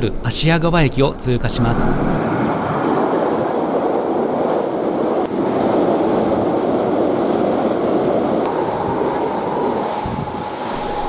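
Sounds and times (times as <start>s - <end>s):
train passing at speed: 1.5s - 11.0s.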